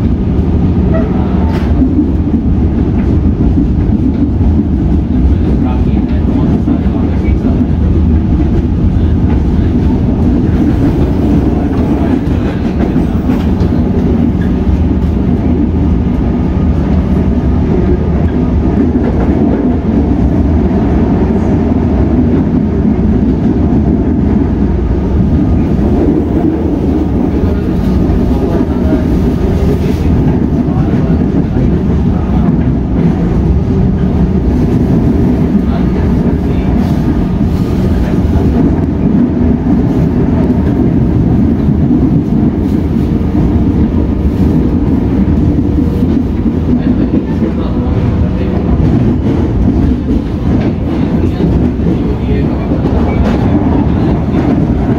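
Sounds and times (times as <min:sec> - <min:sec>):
rail clatter: 0:00.0 - 0:54.9
train wheels rumbling on rails: 0:00.0 - 0:54.9.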